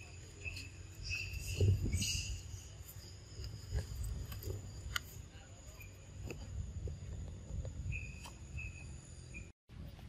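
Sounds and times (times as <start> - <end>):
high-pitched insect calls: 0.0 - 6.4, 7.4 - 9.5.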